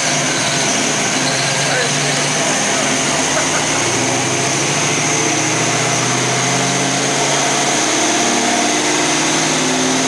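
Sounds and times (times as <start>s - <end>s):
car engine running at light throttle: 0.0s - 10.0s.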